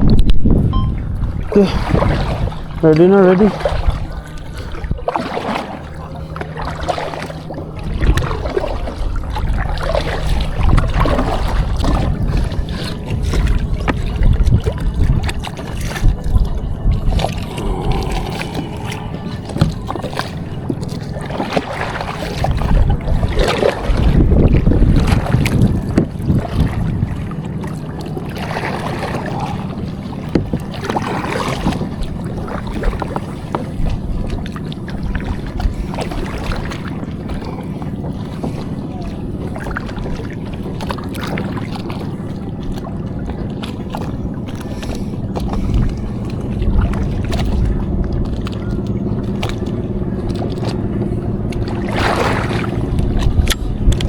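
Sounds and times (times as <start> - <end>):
water lapping against hull: 0.0 - 54.0
wind buffeting microphone: 0.0 - 54.0.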